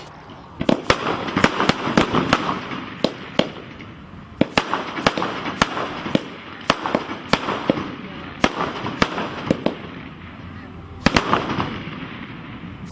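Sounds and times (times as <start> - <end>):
fireworks bangs: 0.0 - 12.9
fireworks rushing noise: 0.0 - 12.9.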